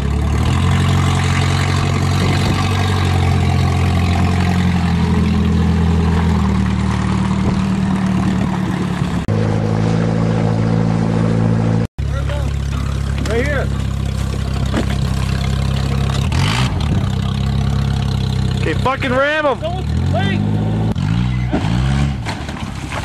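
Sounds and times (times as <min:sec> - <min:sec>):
car engine running at low speed: 0:00.0 - 0:23.0.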